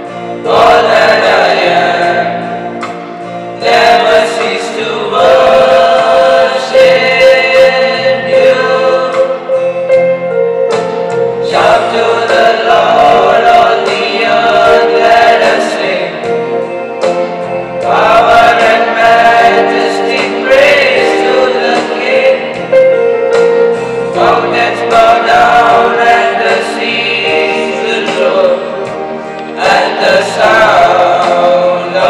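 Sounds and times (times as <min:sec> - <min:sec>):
boys singing together: 0:00.4 - 0:02.5, 0:03.6 - 0:09.6, 0:11.4 - 0:16.4, 0:17.8 - 0:22.8, 0:24.1 - 0:32.0.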